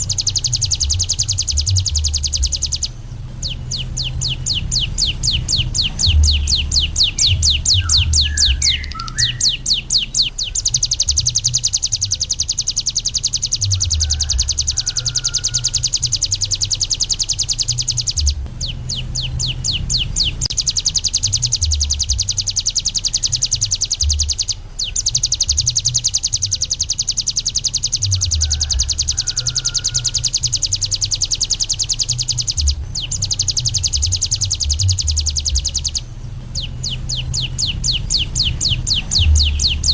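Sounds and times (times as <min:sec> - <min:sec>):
low rumble: 0:00.0 - 0:14.9, 0:15.5 - 0:25.8, 0:30.1 - 0:39.9
bird trilling: 0:00.0 - 0:39.9.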